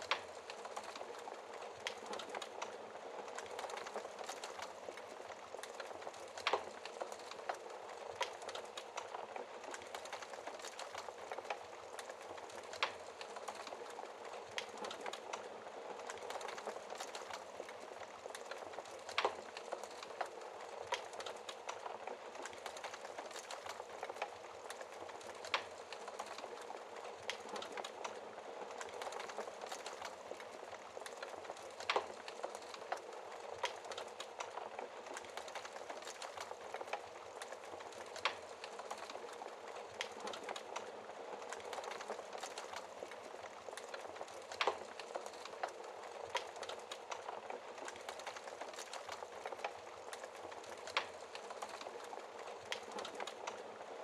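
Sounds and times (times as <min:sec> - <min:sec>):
fire hissing and crackling: 0:00.0 - 0:54.0.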